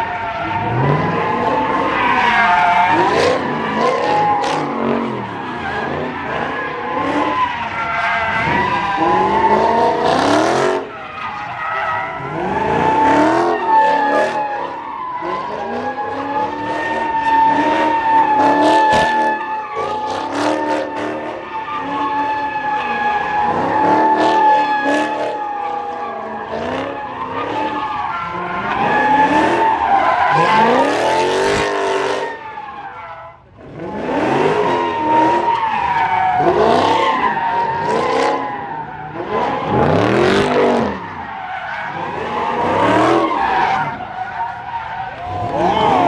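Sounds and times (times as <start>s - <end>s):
car engine revving: 0.0s - 46.0s
car tyres squealing: 0.0s - 46.0s.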